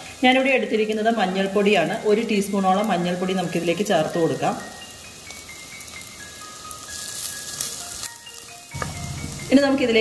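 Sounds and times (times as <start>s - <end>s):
shallots sizzling in oil: 0.0s - 10.0s
quiet background music: 0.3s - 10.0s.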